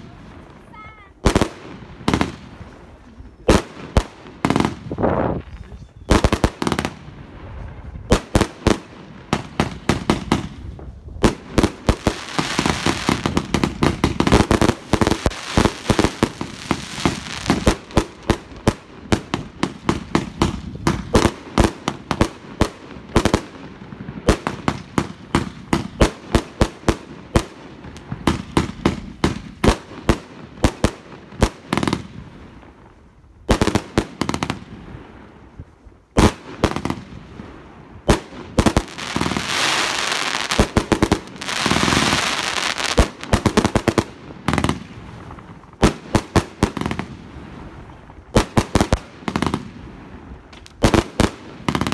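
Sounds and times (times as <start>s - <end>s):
fireworks bangs: 0.0s - 51.9s
fireworks crackling: 0.0s - 51.9s.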